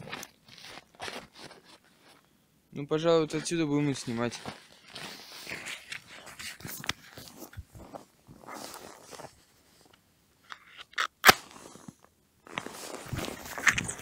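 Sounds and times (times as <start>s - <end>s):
footsteps crunching in snow: 0.0s - 2.2s, 3.4s - 9.9s, 11.4s - 14.0s.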